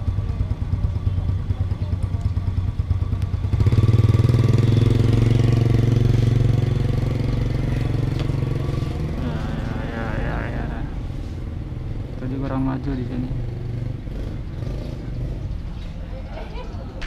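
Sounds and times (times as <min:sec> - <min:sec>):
motorcycle riding past: 0:00.0 - 0:16.7.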